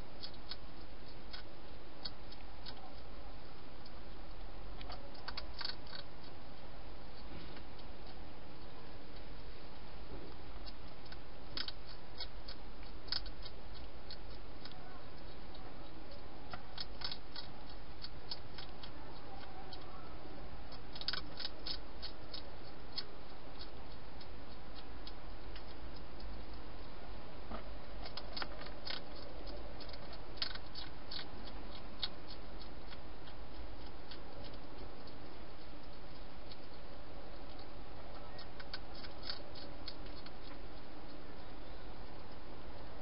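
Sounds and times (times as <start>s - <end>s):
hedgehog crunching food: 0.0s - 43.0s
low hum and hiss: 0.0s - 43.0s.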